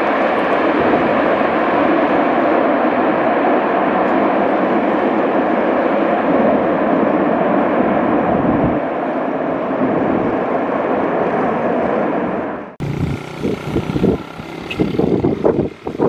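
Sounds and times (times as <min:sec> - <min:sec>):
aircraft engine rushing: 0:00.0 - 0:16.0.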